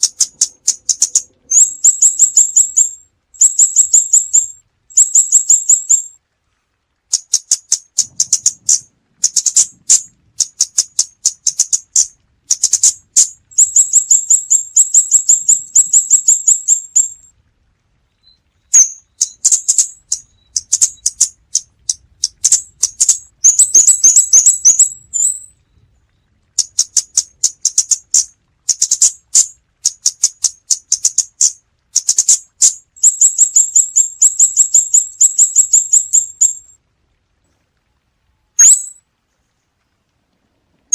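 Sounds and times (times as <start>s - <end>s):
bird ticking calls: 0.0s - 6.2s, 7.1s - 17.3s, 18.1s - 36.7s, 38.6s - 39.0s.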